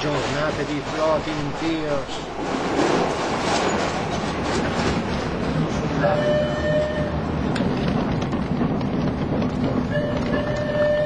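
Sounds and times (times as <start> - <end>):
steam locomotive rattling: 0.0 - 11.0.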